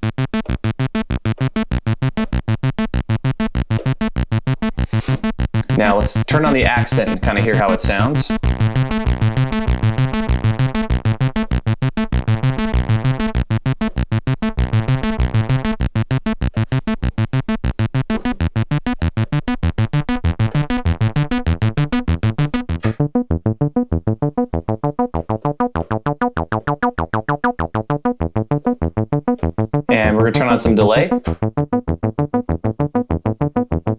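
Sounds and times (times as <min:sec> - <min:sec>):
bass synthesizer arpeggio: 0:00.0 - 0:33.9.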